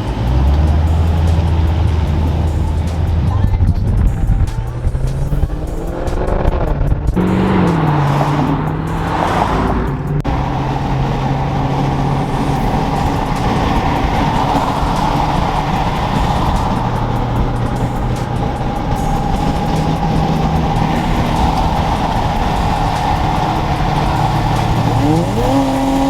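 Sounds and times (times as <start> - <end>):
car engine revving and cruising: 0.0 - 26.0.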